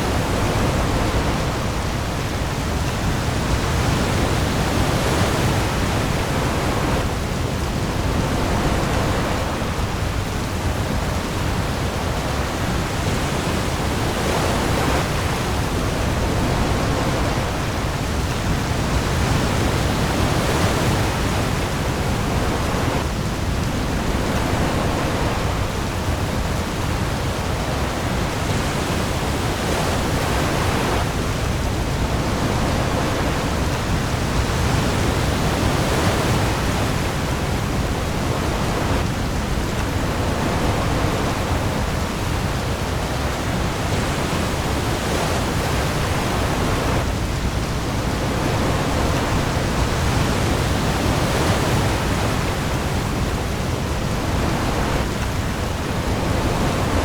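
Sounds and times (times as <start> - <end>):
heavy rain on the sea: 0.0 - 57.0
waves: 0.0 - 57.0.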